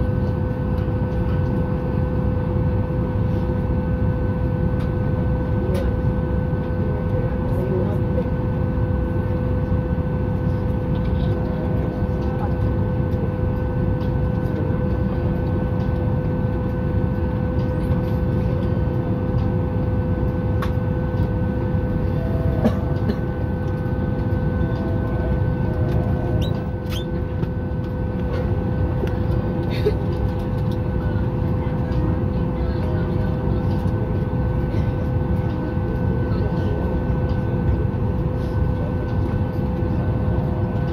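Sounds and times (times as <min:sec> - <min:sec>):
cabin air-conditioning roar: 0:00.0 - 0:40.9.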